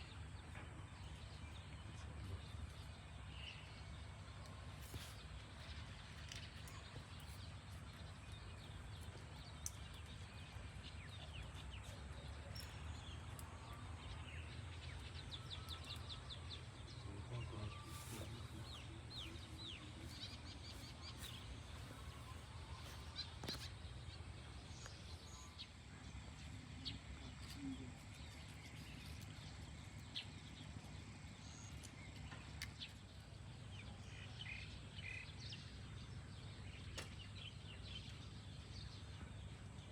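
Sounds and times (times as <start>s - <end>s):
low outdoor rumble: 0.0s - 39.9s
small birds chirping: 0.0s - 39.9s.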